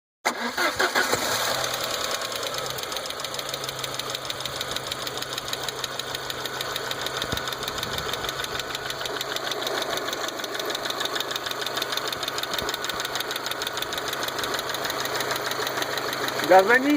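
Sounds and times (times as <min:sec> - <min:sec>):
car engine idling with knocking: 0:01.0 - 0:16.9.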